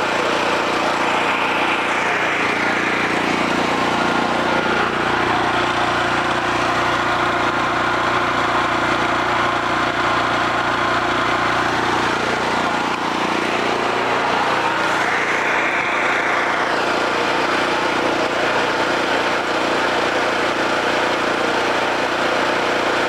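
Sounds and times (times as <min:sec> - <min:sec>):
generator engine running: 0:00.0 - 0:23.0.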